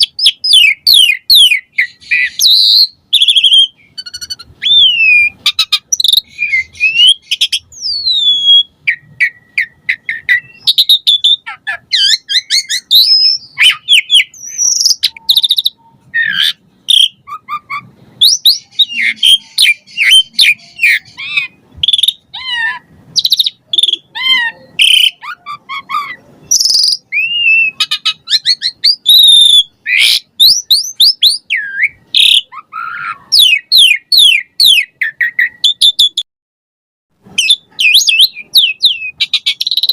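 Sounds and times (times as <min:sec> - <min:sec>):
starling singing: 0:00.0 - 0:36.2, 0:37.3 - 0:39.9.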